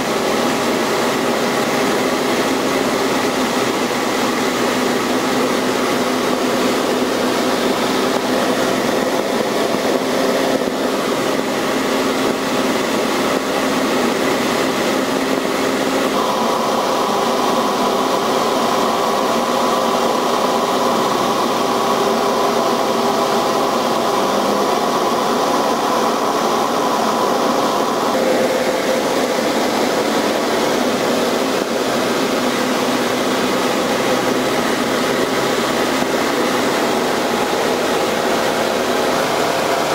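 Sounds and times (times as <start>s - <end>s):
light aircraft engine in flight: 0.0s - 39.9s.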